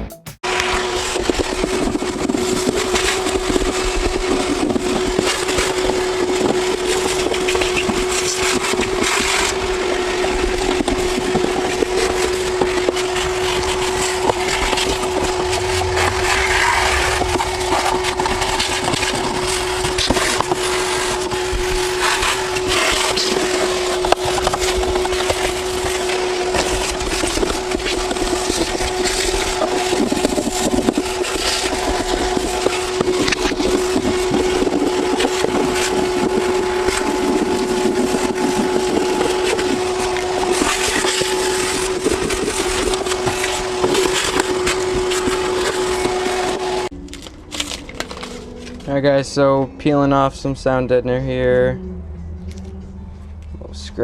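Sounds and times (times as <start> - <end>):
steady hum: 0.0 - 54.0
sheets crinkling and scraping: 2.4 - 49.2.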